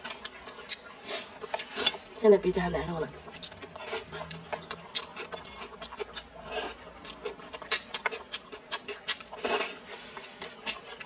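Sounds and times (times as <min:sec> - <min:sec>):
close chewing with mouth clicks: 0:00.0 - 0:11.0.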